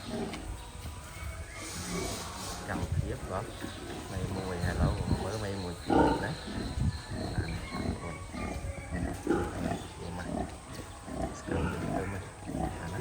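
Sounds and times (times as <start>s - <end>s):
pigs grunting: 0.0s - 0.6s, 1.5s - 13.0s.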